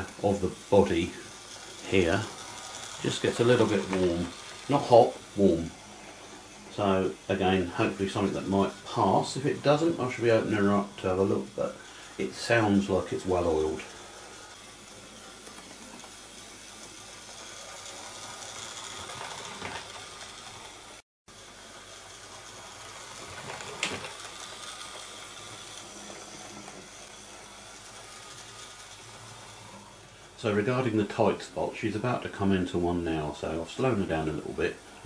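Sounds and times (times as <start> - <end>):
wheels rattling over rails: 0.0 - 34.6
model train motor whirring: 0.0 - 35.0.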